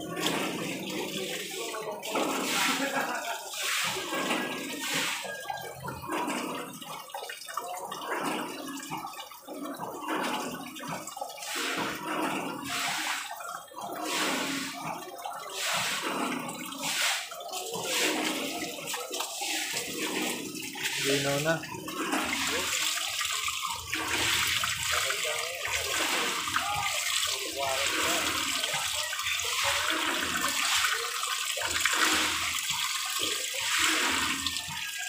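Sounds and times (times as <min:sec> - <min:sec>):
water gushing from a pipe: 0:00.0 - 0:35.0
water splashing on concrete: 0:00.0 - 0:35.0.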